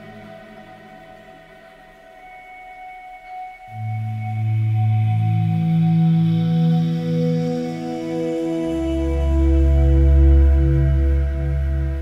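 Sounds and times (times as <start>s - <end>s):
ambient music held notes: 0.0s - 12.0s.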